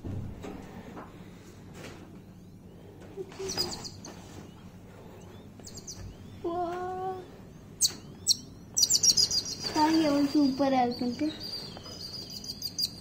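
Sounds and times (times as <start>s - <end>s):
small birds chirping: 2.2s - 13.0s.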